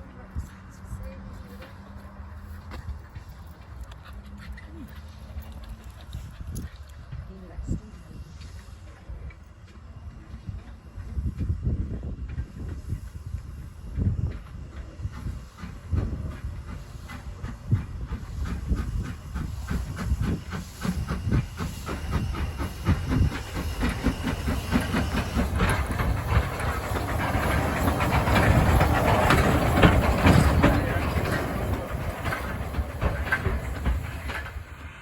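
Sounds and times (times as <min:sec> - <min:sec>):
steam locomotive exhaust beating: 0:04.8 - 0:35.0
steam hissing: 0:06.4 - 0:35.0.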